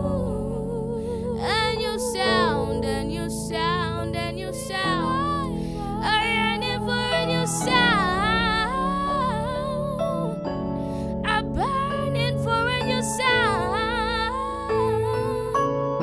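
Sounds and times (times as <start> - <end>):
woman singing chant: 0.0 - 10.3, 11.3 - 15.6
sustained keyboard chords: 0.0 - 16.0.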